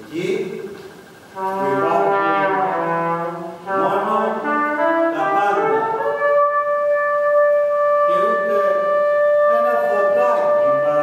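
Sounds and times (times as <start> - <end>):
solo trumpet: 1.3 - 11.0.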